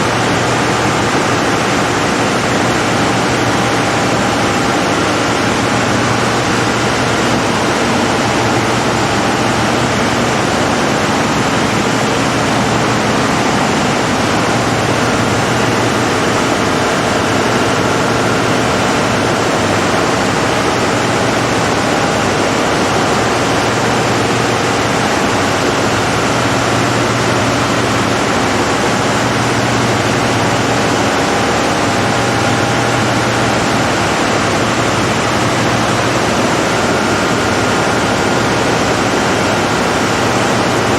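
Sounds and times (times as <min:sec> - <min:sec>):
diesel generator engine running: 0:00.0 - 0:40.9.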